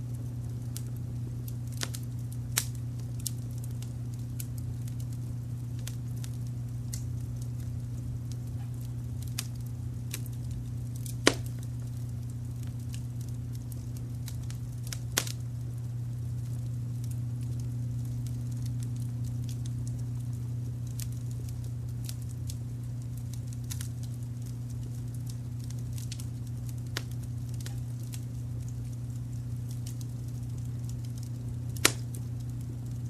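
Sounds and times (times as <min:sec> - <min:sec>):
low rumble of brown noise: 0:00.0 - 0:33.0
wood fire crackling and popping: 0:00.0 - 0:33.0.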